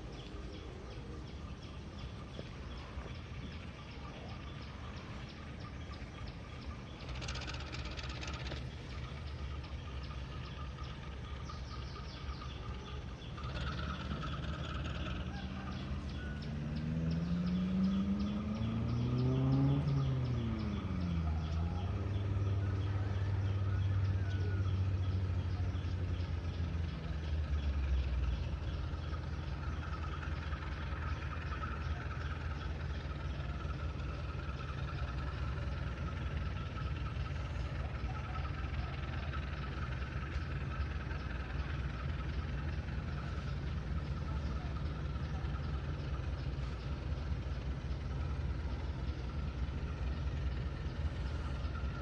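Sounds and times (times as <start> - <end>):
engine revving: 2.0 - 52.0.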